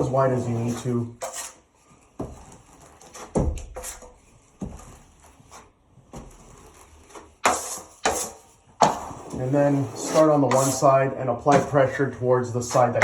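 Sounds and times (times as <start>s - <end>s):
drywall knife scraping: 0.0s - 13.0s.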